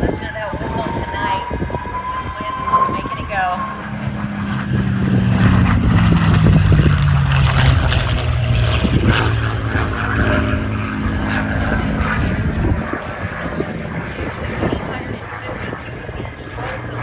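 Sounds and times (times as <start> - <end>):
plane engine droning in flight: 0.0 - 17.0.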